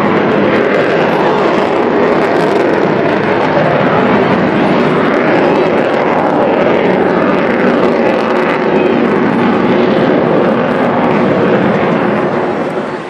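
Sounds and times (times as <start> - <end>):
jet bomber flying past: 0.0 - 13.0.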